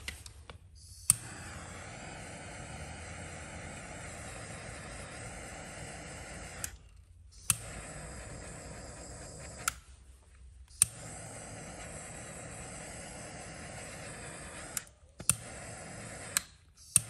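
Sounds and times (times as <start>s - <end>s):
torch lighter hissing: 0.0s - 10.0s, 10.6s - 17.0s
lighter ignition click: 0.9s - 6.8s, 7.4s - 9.8s, 10.7s - 17.0s.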